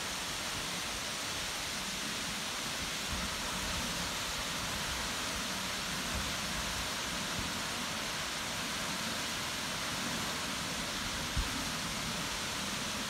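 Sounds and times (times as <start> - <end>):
waterfall hissing: 0.0 - 13.0.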